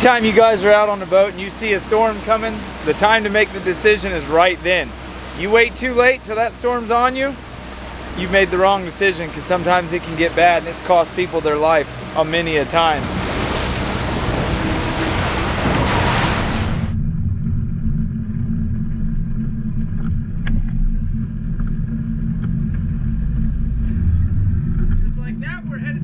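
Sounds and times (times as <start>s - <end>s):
boat engine idling: 0.0s - 26.0s
wind and water rushing past boat: 0.0s - 26.0s.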